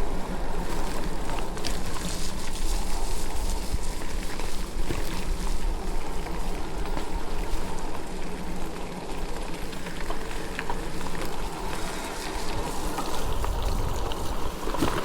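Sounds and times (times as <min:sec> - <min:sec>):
tyre noise with crackles: 0:00.0 - 0:15.0
wind rumble: 0:00.0 - 0:15.0.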